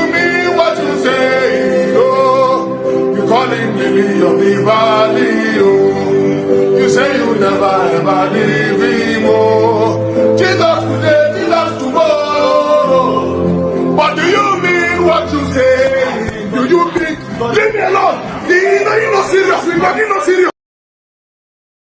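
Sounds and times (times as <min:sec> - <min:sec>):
bass: 0:00.0 - 0:20.0
choir singing: 0:00.0 - 0:20.3
keyboard chords: 0:00.0 - 0:20.5
man singing lead: 0:00.0 - 0:20.5.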